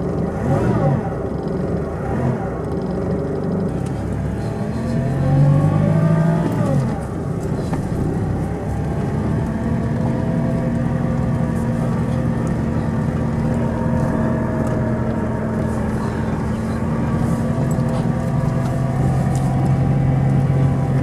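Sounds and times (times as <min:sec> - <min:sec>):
diesel engine while driving: 0:00.0 - 0:21.0.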